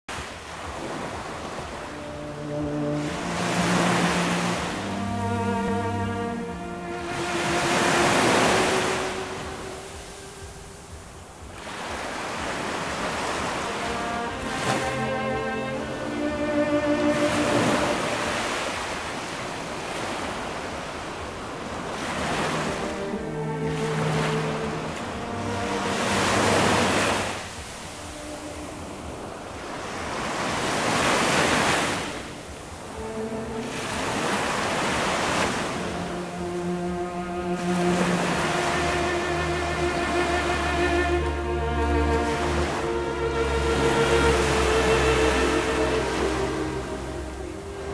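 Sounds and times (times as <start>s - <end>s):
sea waves washing over rocks: 0.1s - 47.9s.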